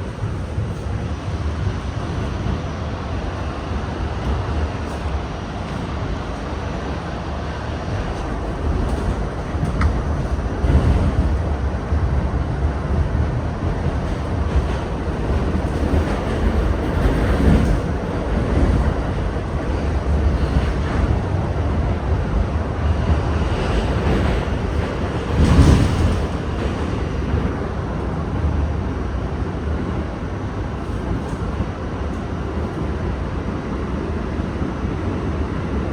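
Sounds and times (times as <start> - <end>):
subway train wheels rumbling: 0.0 - 35.9.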